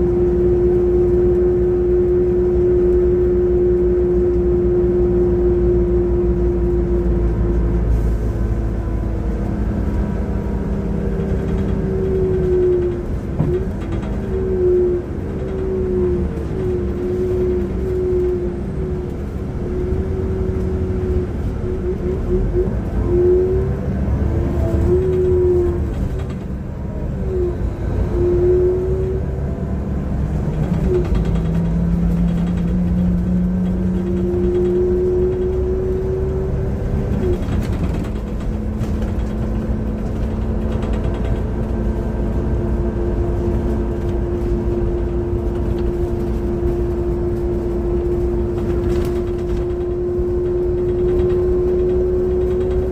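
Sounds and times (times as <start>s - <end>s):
bus engine drone with whine: 0.0s - 52.9s.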